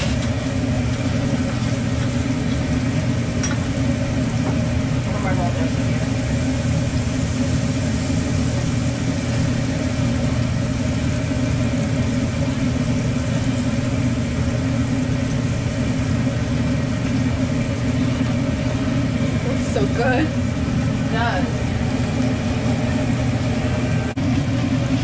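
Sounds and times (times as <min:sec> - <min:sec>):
kitchen machinery droning: 0:00.0 - 0:25.0.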